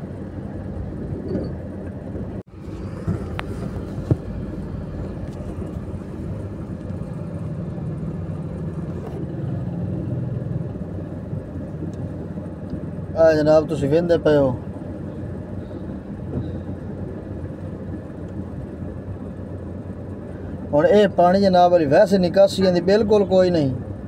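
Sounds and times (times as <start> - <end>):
car engine humming from inside: 0.0 - 24.0.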